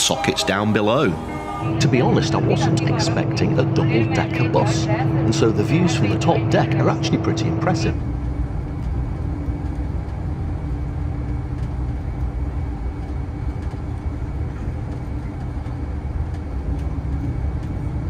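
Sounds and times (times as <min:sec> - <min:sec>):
engine and road rumble drone: 0:00.6 - 0:18.0.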